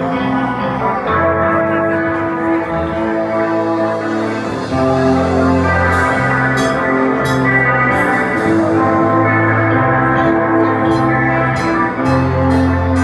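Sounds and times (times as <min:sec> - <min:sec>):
metal band sustained chords: 0:00.0 - 0:13.0.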